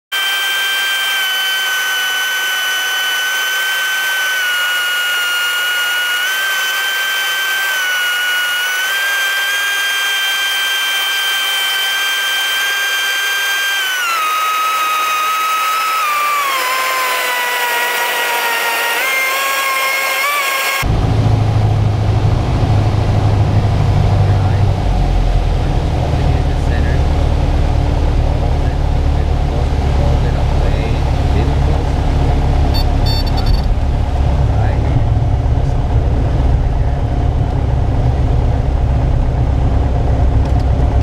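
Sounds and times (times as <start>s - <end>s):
airplane engine and propeller drone: 0.1s - 41.0s.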